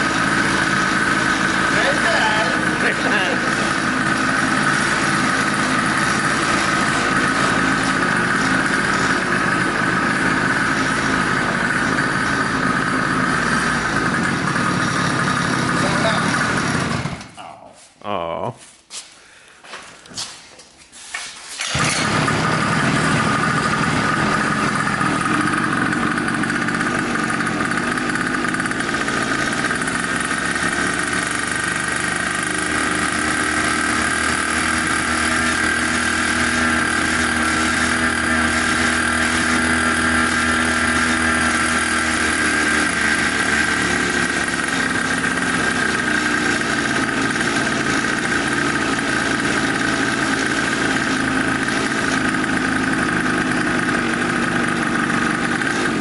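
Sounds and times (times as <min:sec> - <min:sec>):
small two-stroke engine running: 0:00.0 - 0:17.5, 0:21.6 - 0:56.0.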